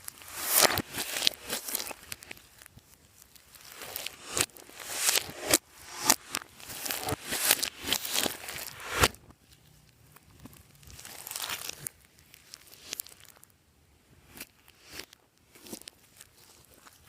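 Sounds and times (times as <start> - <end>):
slime crackling and crinkling: 0.0 - 17.0.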